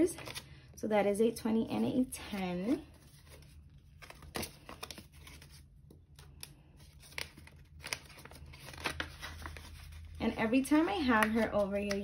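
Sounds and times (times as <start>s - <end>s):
paper rustling and crinkling: 0.0s - 0.5s, 2.2s - 12.0s.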